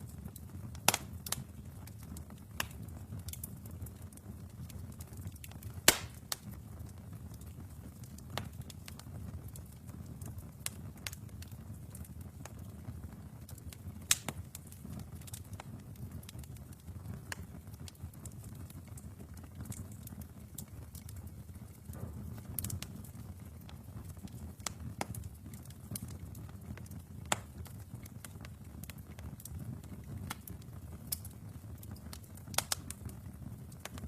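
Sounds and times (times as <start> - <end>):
burning logs popping and crackling: 0.0 - 34.0
low rumble of flames: 0.0 - 34.0.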